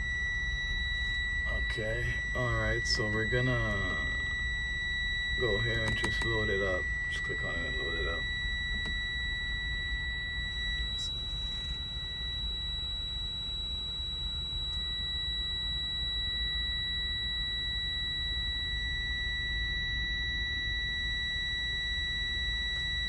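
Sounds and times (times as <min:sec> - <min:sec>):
high-pitched electronic buzzer tone: 0:00.0 - 0:23.0.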